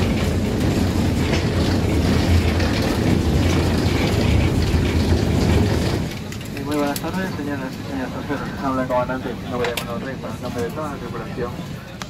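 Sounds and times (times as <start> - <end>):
machinery low rumble: 0.0 - 12.0.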